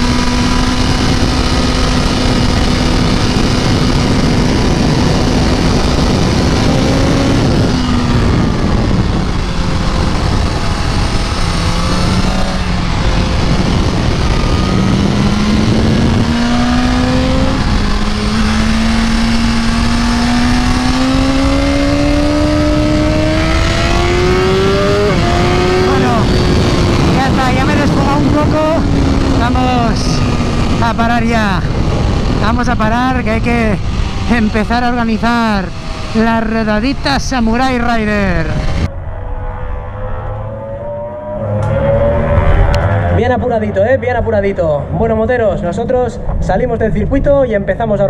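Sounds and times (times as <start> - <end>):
wind rush on microphone: 0.0 - 40.8, 41.4 - 44.3
motorcycle engine at full throttle: 0.0 - 48.0.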